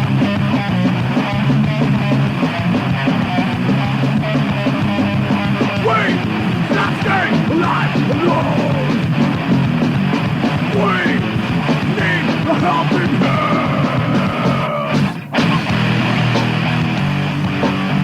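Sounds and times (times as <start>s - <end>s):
thrash metal band playing: 0.0s - 18.0s.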